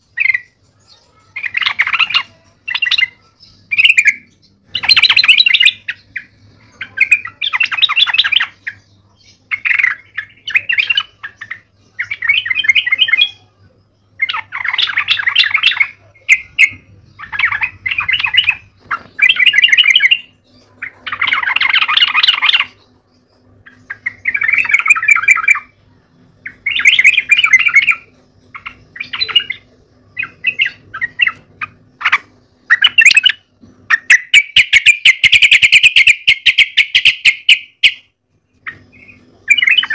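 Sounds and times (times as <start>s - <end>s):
bird singing rapid notes: 0.0s - 39.9s.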